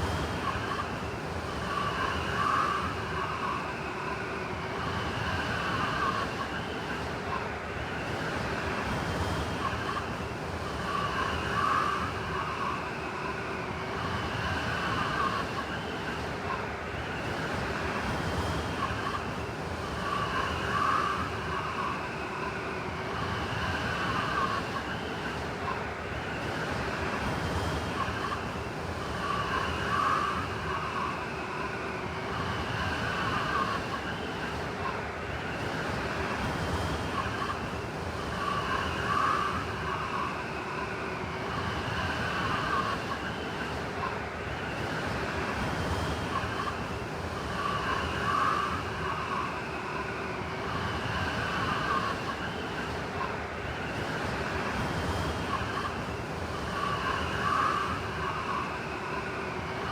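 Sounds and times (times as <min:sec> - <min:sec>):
blizzard wind howling: 0:00.0 - 0:59.9.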